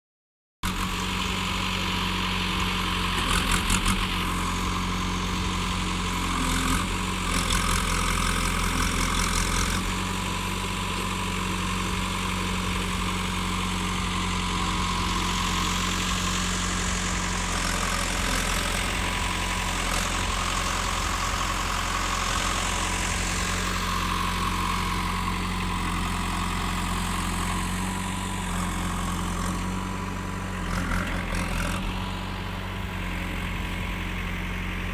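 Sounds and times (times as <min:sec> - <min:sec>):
tractor diesel engine running: 0:00.6 - 0:34.9.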